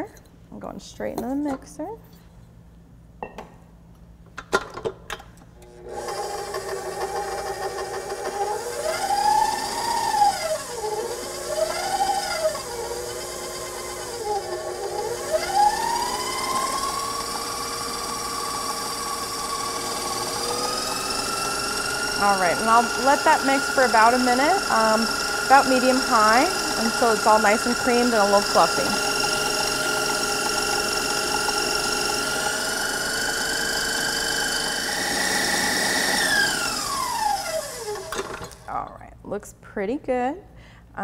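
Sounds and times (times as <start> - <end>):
stand mixer motor whine: 5.6 - 38.6.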